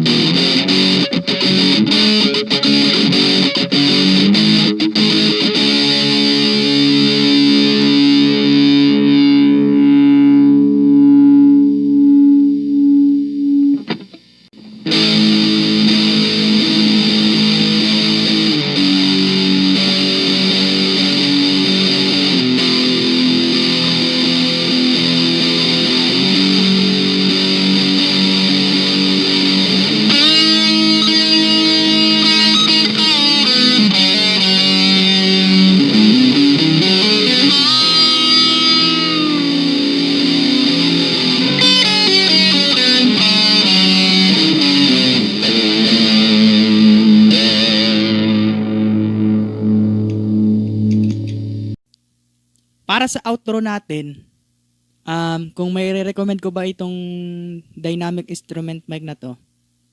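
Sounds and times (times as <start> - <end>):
distorted electric guitar: 0.0 - 51.8.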